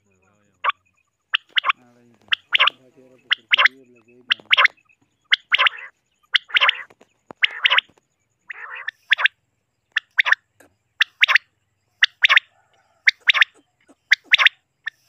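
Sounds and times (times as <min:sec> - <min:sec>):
quail calling: 0:00.0 - 0:15.0.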